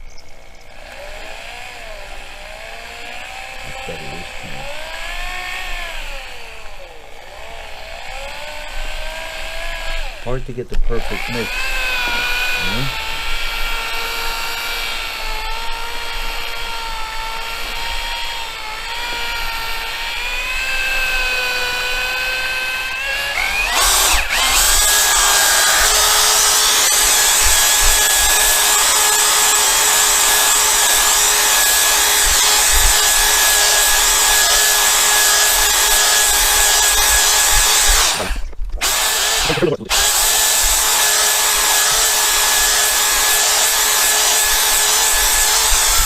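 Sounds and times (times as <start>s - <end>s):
electric drill whining: 0.5s - 46.0s.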